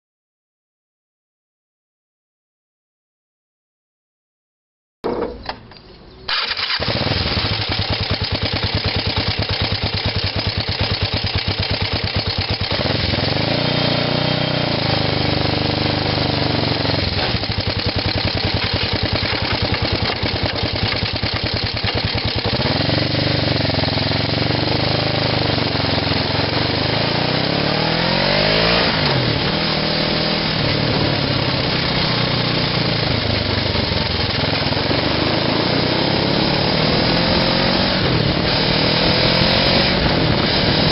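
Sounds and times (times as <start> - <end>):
small engine revving: 6.3 - 40.9.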